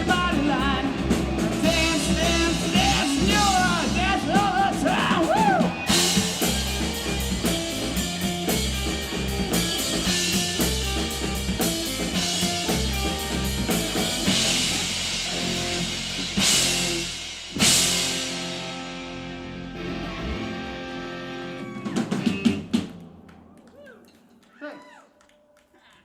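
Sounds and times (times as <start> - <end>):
rock band playing: 0.0 - 23.8.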